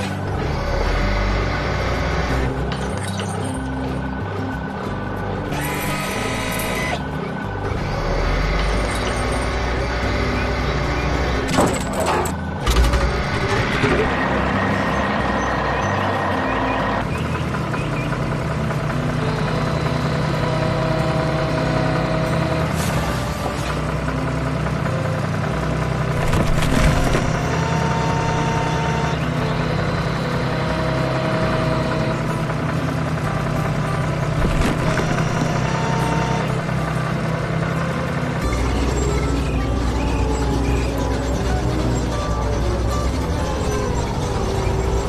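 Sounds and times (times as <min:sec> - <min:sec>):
heavy truck engine running: 0:00.0 - 0:45.0.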